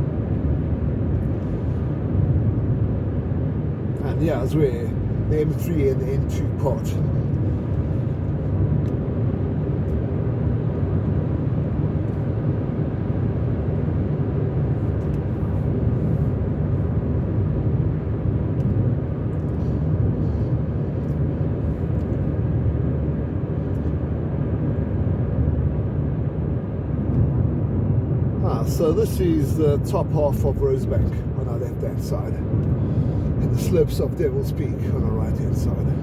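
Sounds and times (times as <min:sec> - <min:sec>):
car driving on freeway: 0:00.0 - 0:36.0.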